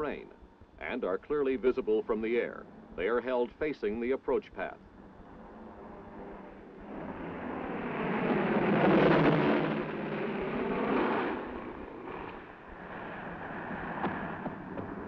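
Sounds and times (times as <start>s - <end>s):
propeller plane engines: 0.0s - 15.0s.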